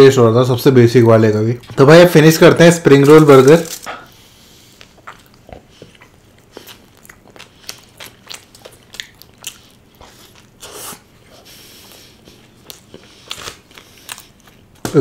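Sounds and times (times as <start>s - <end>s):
crunchy biting and chewing: 2.9s - 15.0s.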